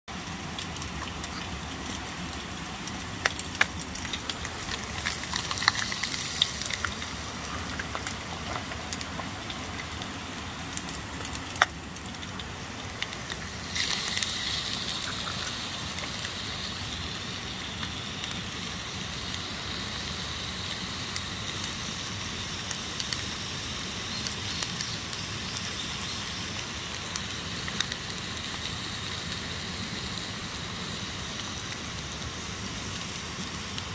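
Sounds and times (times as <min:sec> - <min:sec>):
campfire crackling and popping: 0:00.1 - 0:33.9
food sizzling in a pan: 0:00.1 - 0:33.9.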